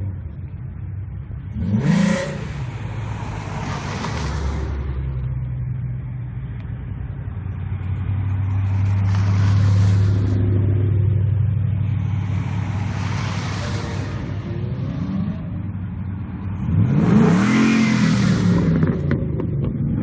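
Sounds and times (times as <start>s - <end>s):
car exhaust rumble: 0.0s - 20.0s
cars passing close: 0.0s - 20.0s.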